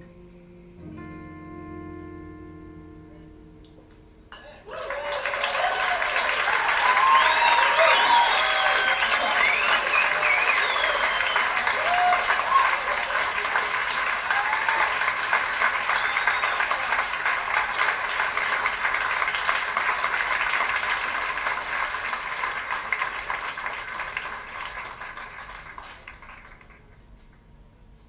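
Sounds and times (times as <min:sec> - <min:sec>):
audience applause through loudspeakers: 0:04.6 - 0:27.4.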